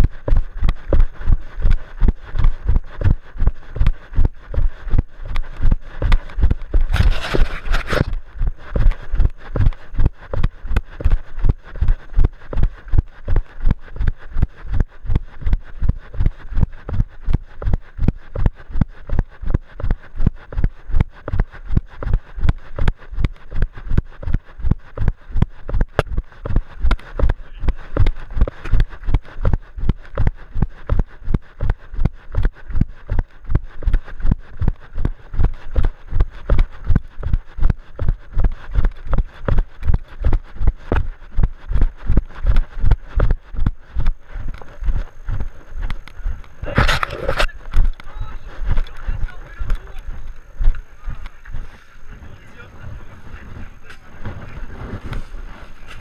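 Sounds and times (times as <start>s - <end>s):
running footsteps on rocky trail: 0.0s - 56.0s.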